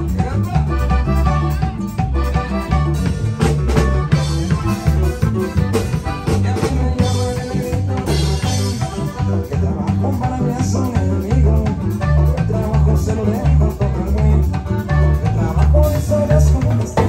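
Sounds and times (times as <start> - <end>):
button accordion: 0.0 - 17.0
drum kit beat: 0.0 - 17.0
electric bass: 0.0 - 17.0
electric guitar: 0.0 - 17.0.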